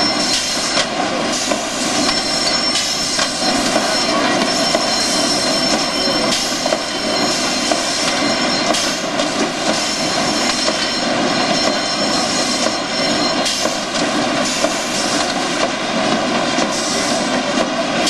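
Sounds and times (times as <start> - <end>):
constant machine whine: 0.0 - 18.0.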